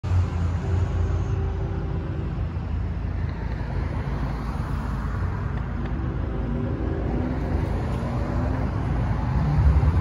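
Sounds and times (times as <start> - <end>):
engine hum: 0.0 - 10.0
road traffic rumble: 0.0 - 10.0.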